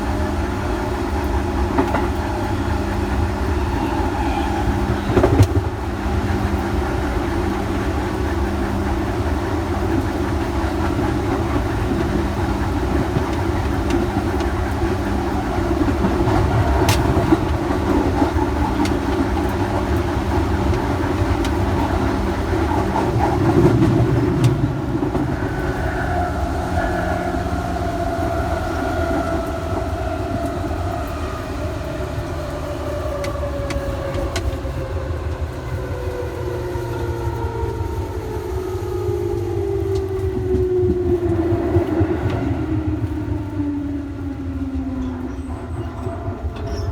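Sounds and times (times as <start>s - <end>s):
electric train rumbling: 0.0s - 46.9s
traction motor whine: 0.0s - 46.9s.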